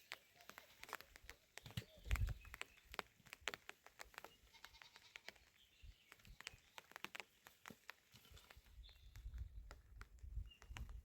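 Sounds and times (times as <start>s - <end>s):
light clicks and taps: 0.0s - 11.0s.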